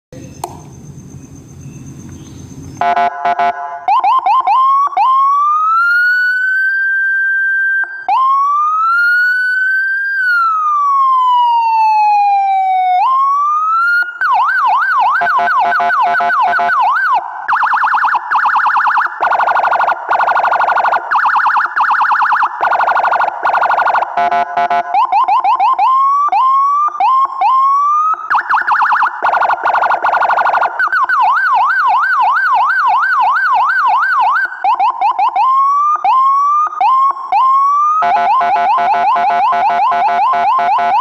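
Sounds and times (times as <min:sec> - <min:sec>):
electronic vehicle siren: 0:02.7 - 0:41.0.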